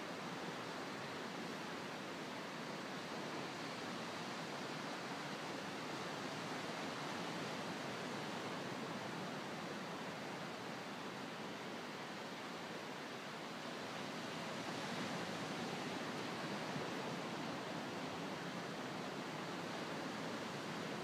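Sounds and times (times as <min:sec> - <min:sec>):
ocean surf washing on beach: 0:00.1 - 0:21.0.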